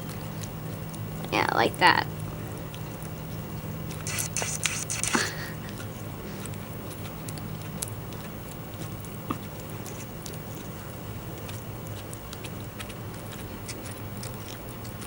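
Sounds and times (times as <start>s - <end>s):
steady low hum: 0.0s - 15.0s
lizard licking wet clicking: 2.2s - 15.0s.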